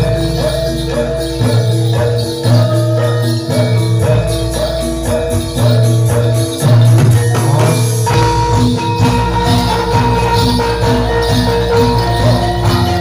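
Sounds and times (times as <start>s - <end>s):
jingling bells: 0.0s - 13.0s
loud low drumming: 0.0s - 13.0s
metallophone notes: 0.0s - 13.0s.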